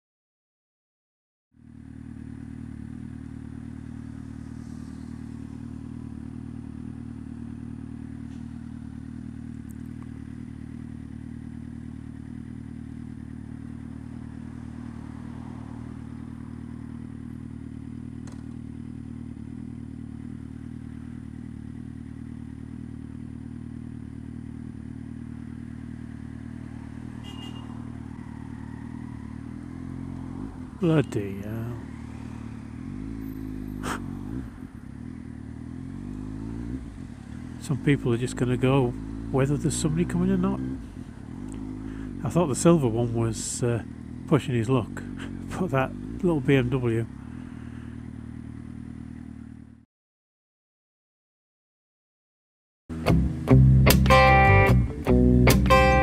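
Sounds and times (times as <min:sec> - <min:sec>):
motorcycle engine idling: 0:01.5 - 0:49.8, 0:52.9 - 0:56.0.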